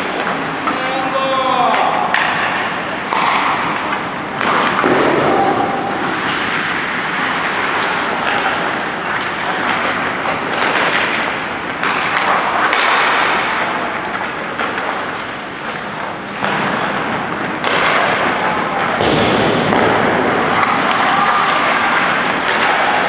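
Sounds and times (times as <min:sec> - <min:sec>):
hockey sticks knocking pucks: 0:00.0 - 0:23.0
skates scraping on ice: 0:02.1 - 0:23.0.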